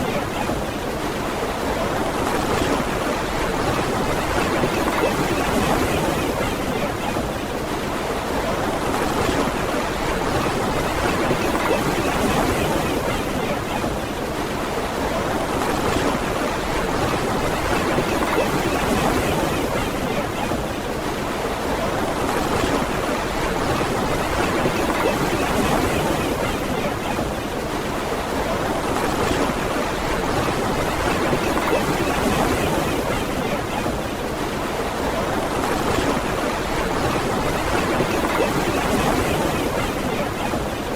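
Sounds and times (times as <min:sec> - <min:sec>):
ocean waves on beach: 0:00.0 - 0:40.9.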